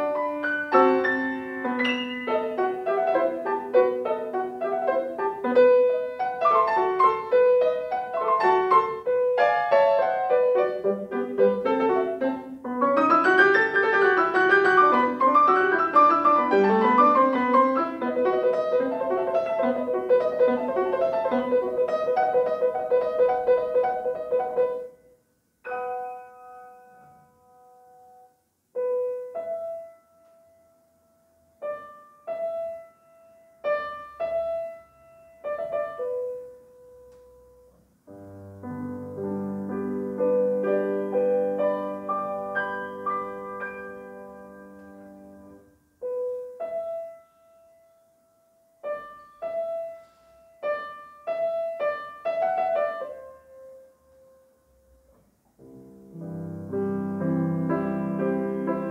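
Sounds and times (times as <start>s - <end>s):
solo grand piano: 0.0s - 58.9s.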